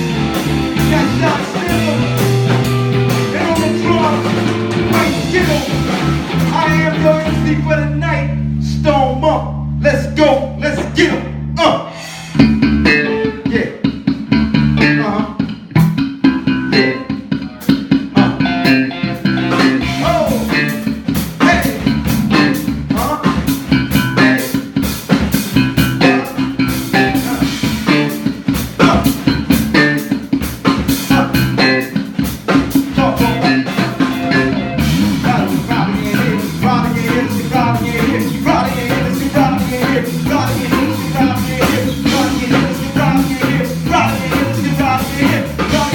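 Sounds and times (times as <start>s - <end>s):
drum kit with cymbals: 0.0s - 7.8s, 10.4s - 45.9s
electric guitar blues playing: 0.0s - 8.9s, 9.6s - 45.9s
bass guitar: 0.0s - 45.9s.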